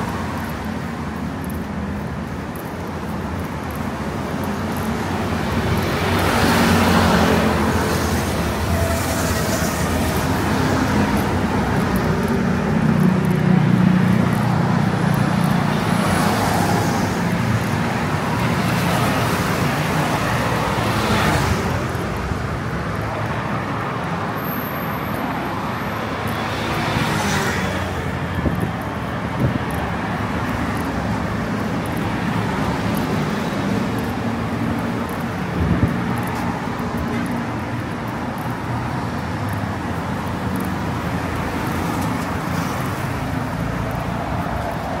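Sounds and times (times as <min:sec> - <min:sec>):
traffic hum: 0:00.0 - 0:45.0
vehicles passing close by: 0:00.0 - 0:45.0.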